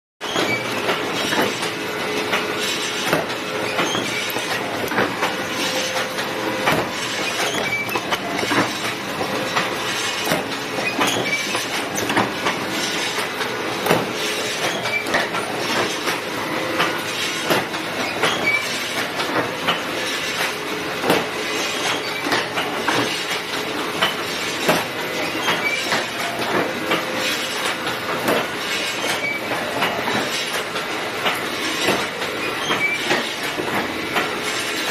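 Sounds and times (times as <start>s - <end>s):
wire-forming machine clattering: 0.2s - 34.9s.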